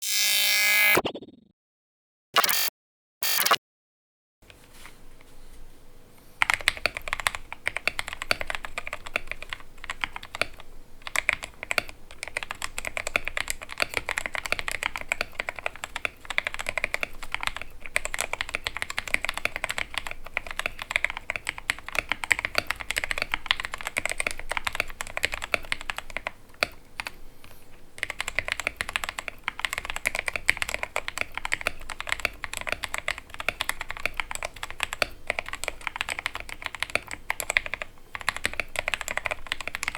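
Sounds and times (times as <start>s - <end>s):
mechanical keyboard typing: 6.4s - 27.2s, 28.0s - 39.9s.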